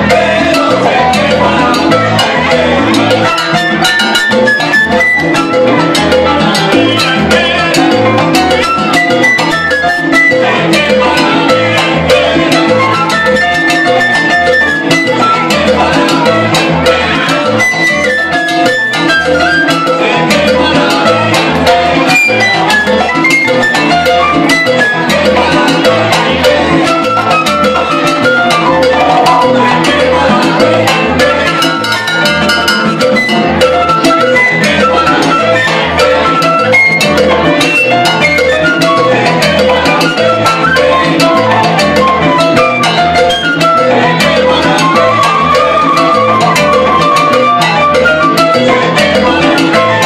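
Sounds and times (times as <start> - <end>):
congas and bongos: 0.0 - 50.0
flute melody: 0.0 - 50.0
keyboard: 0.0 - 50.0
pulsing bass guitar: 0.0 - 50.0.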